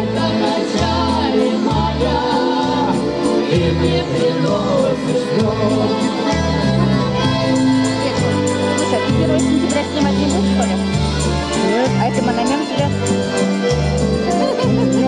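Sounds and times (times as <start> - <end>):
music with steady beat: 0.0 - 15.0.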